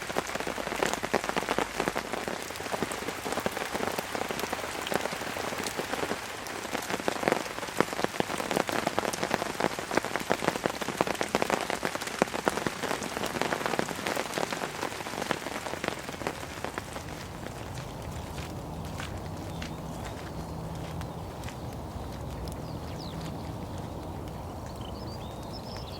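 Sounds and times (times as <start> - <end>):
rain pattering on a tarp: 0.0 - 25.9.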